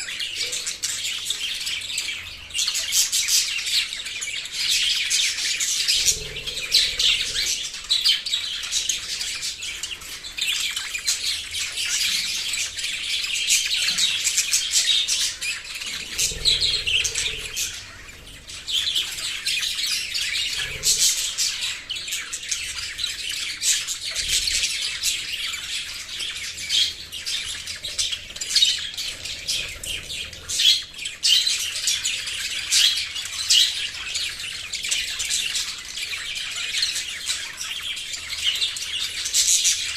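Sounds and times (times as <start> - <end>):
parrots chirping and chattering: 0.0 - 39.9.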